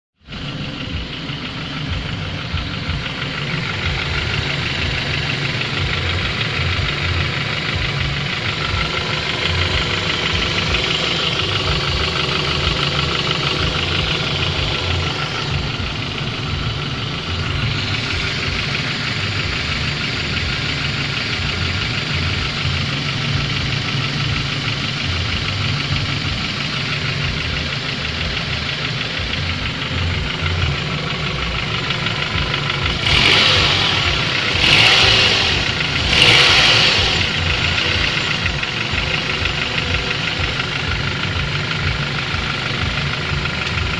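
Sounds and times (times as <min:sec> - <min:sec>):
engine running with rapid knock: 0:00.2 - 0:43.9.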